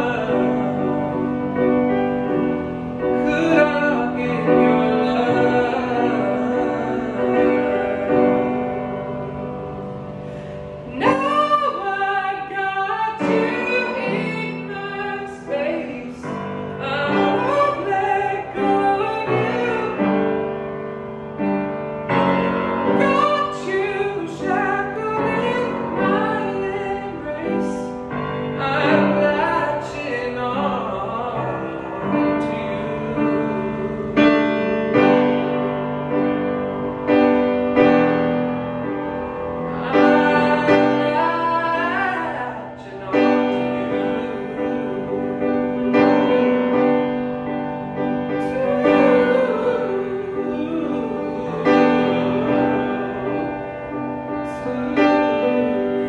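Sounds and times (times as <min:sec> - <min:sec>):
man singing: 0:00.0 - 0:09.3, 0:10.8 - 0:20.2, 0:22.4 - 0:35.2, 0:39.6 - 0:47.0, 0:48.3 - 0:56.0
piano chords: 0:00.0 - 0:56.0.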